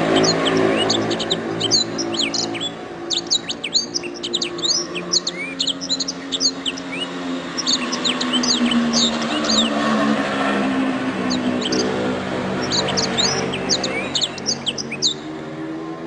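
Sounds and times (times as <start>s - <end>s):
canary singing: 0.0s - 15.5s.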